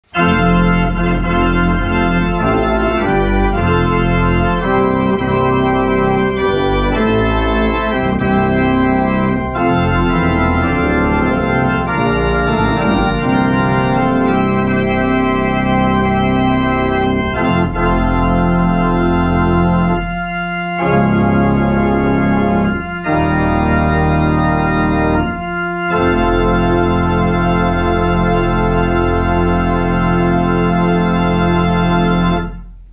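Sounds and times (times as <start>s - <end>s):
pipe organ playing chords: 0.0s - 32.9s.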